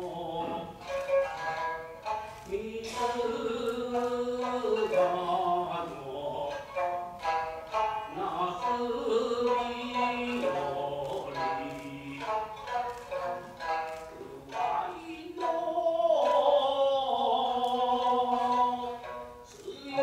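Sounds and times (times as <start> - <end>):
plucked shamisen: 0.0 - 20.0.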